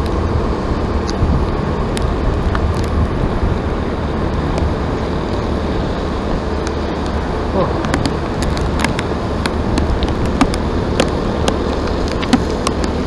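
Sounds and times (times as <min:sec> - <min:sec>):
vehicle rumbling: 0:00.0 - 0:13.0.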